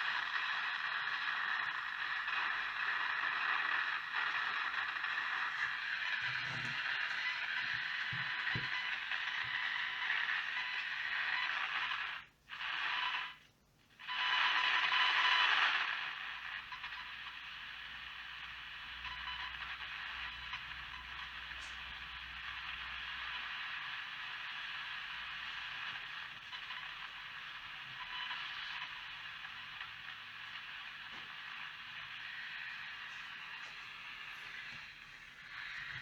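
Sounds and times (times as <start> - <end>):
radio static hiss: 0.0 - 13.4, 14.0 - 36.0.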